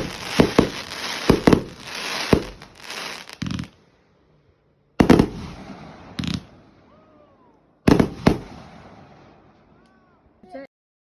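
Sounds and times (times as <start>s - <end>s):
fireworks bangs: 0.0s - 3.9s, 5.0s - 10.1s.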